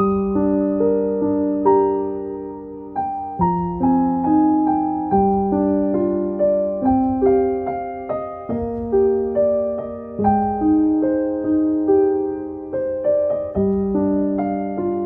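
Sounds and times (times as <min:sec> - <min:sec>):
soft piano notes: 0:00.0 - 0:15.0.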